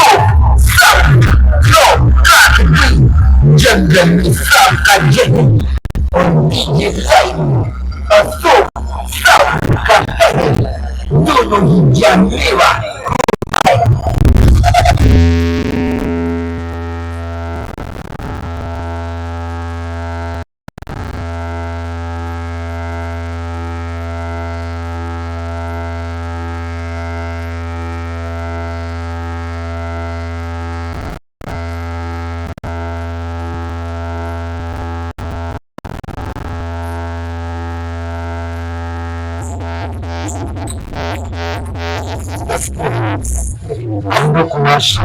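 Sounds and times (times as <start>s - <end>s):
low bass drone through speakers: 0.0s - 45.0s.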